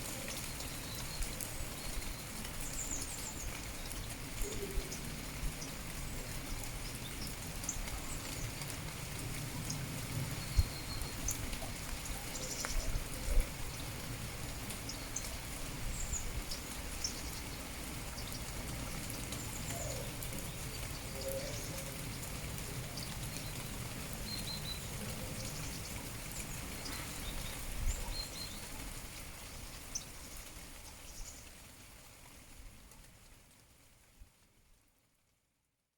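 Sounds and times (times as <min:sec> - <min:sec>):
steady rain falling: 0:00.0 - 0:35.5.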